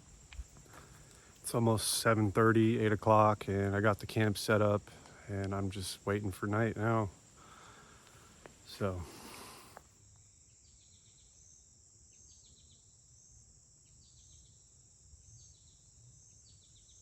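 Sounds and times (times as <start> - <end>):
insect call of quick pulses: 0.0 - 17.0
insect high-pitched trill: 0.0 - 17.0.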